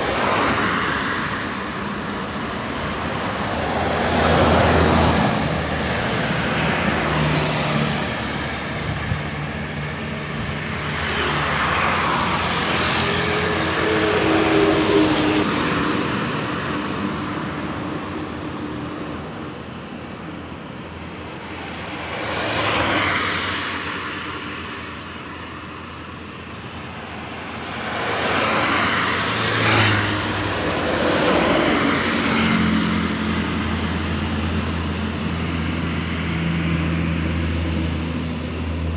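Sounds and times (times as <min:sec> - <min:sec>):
heavy vehicles passing by: 0:00.0 - 0:38.9.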